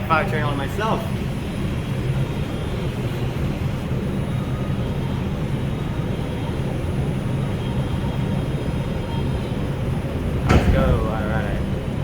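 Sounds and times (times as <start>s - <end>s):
subway car hum and rumble: 0.0s - 12.0s.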